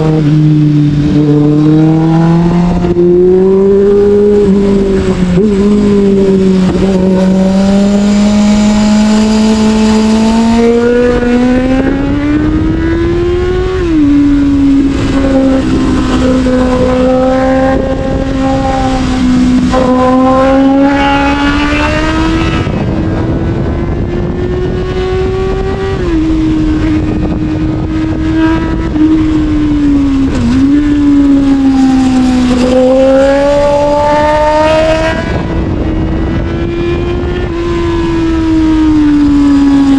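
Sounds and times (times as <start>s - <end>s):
motorcycle engine changing gears: 0.0s - 39.9s
wind rush: 0.0s - 39.9s.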